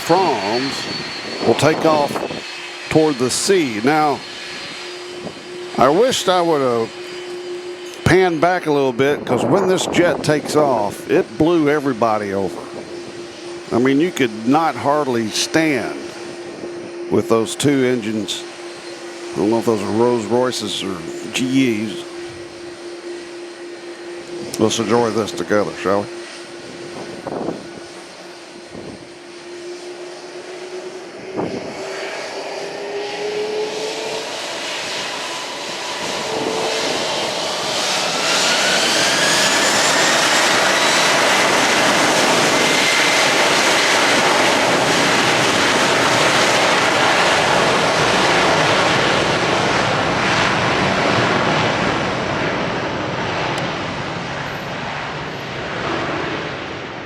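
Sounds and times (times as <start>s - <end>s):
jet engines whining: 0.0s - 57.0s
jet roar: 0.0s - 57.0s.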